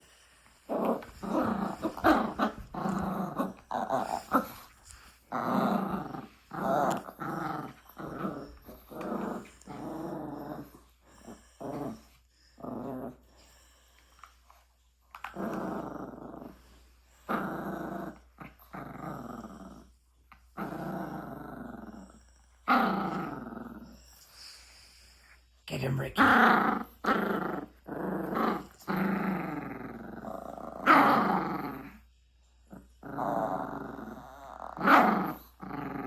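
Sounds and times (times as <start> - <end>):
small dog growling: 0.6 - 13.5, 15.1 - 25.3, 26.2 - 36.0.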